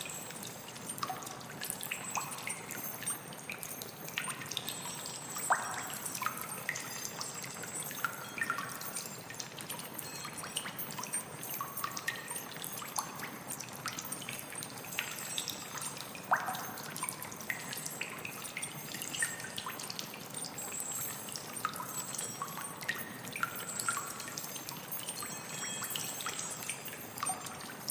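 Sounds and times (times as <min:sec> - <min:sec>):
water drips and plinks: 0:00.0 - 0:27.9
water trickling: 0:00.0 - 0:27.9.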